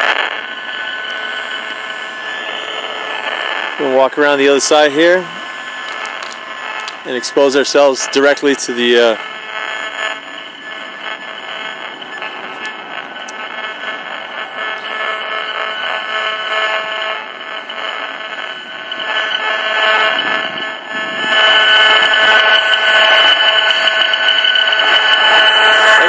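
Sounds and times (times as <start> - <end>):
electronic alarm tone: 0.0 - 26.0.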